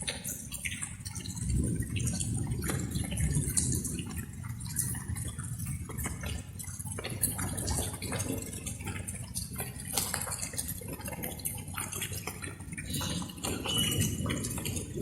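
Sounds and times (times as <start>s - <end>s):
low steady rumble: 0.0s - 15.0s
water drops dripping and splashing: 0.0s - 15.0s.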